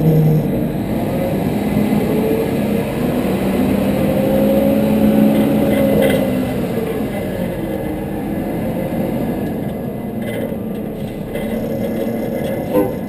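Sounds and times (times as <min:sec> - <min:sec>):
garbage truck engine running: 0:00.0 - 0:13.0
road noise: 0:00.0 - 0:13.0.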